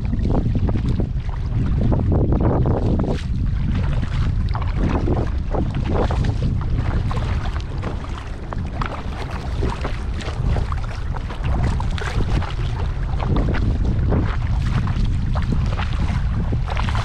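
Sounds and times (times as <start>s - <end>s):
water splashing around kayak: 0.0s - 17.0s
wind buffeting microphone: 0.0s - 17.0s.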